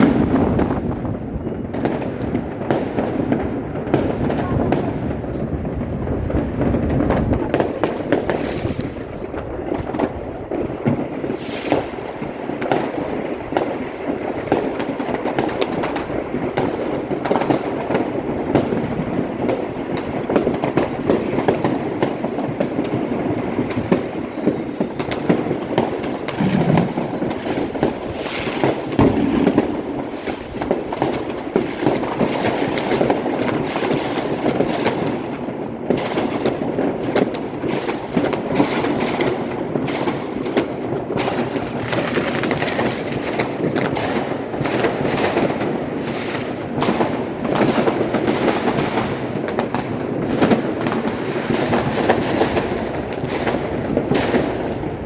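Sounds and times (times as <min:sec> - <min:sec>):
firecrackers crackling: 0:00.0 - 0:55.0
fireworks sharp bangs: 0:00.0 - 0:55.0.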